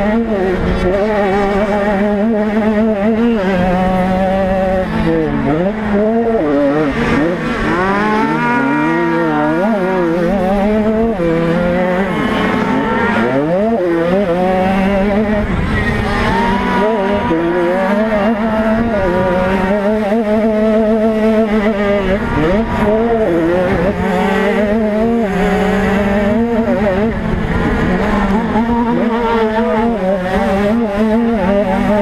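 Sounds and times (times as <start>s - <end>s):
two-stroke motorcycle engine revving: 0.0s - 32.0s.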